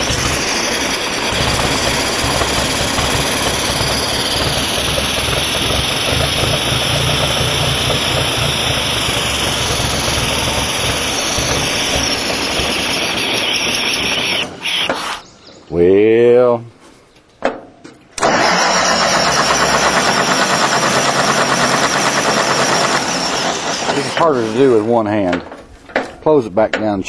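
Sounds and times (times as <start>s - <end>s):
tractor engine running: 0.0s - 15.2s, 18.2s - 26.2s.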